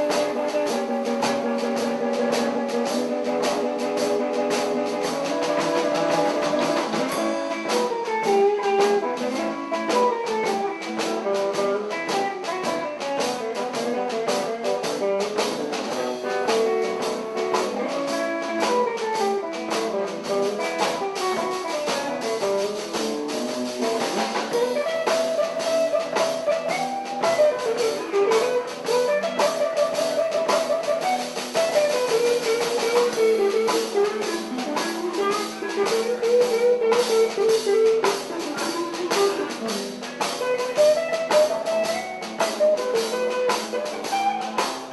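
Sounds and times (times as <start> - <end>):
drum kit beat: 0.0 - 44.9
electric guitar lead with bends: 0.0 - 44.9.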